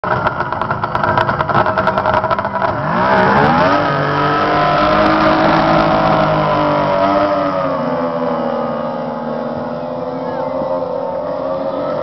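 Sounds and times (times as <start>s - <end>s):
outboard motor revving: 0.0s - 12.0s.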